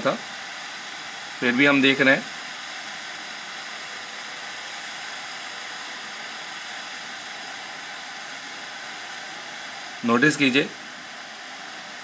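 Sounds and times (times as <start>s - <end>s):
hot-air gun hissing: 0.0s - 12.0s.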